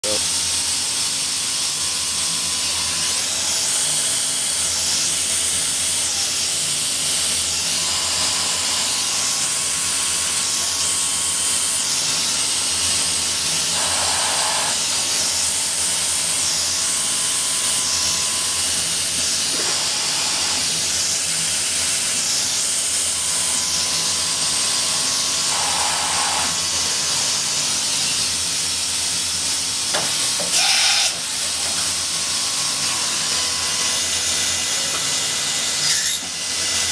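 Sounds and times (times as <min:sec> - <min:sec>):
milling machine hissing: 0:00.0 - 0:36.9.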